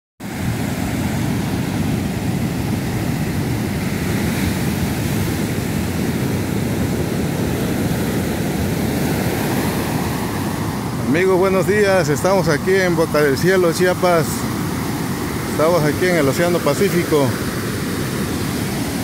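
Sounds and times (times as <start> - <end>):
ocean surf breaking: 0.2 - 19.0.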